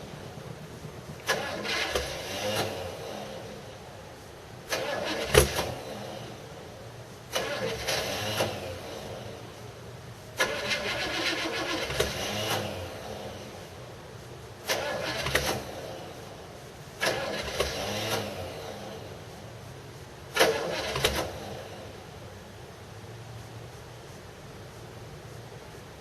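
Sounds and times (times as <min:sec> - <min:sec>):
car engine cold starting: 0:00.0 - 0:22.6.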